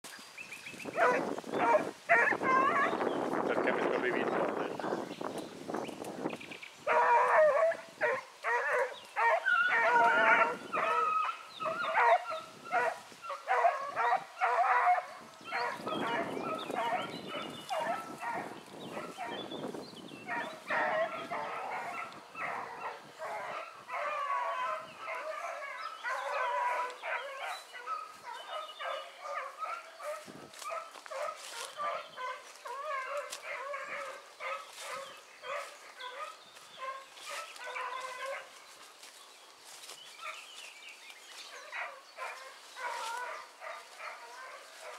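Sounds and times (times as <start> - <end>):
hounds baying and barking: 0.8 - 3.1, 6.8 - 44.9.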